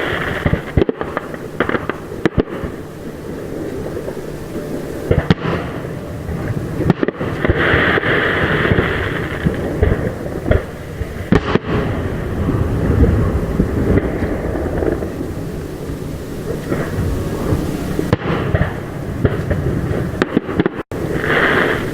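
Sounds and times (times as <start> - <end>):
firework hissing crackle: 0.0 - 21.9
firework shells bursting: 0.0 - 21.9
low rumble: 0.0 - 21.9.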